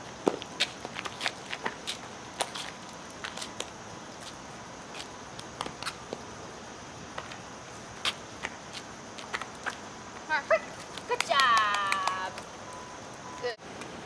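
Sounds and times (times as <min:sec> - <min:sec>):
footsteps on asphalt: 0:00.0 - 0:06.4, 0:07.0 - 0:12.9
steady outdoor hiss: 0:00.0 - 0:14.0.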